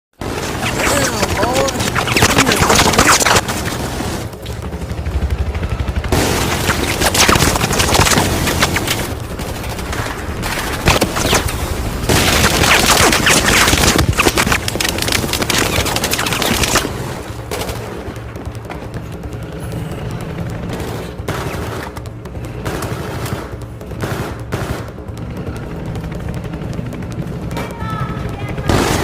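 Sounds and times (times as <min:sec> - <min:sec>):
rapid sharp cracks and impacts: 0:00.2 - 0:29.0
steady low rumble: 0:00.2 - 0:29.0.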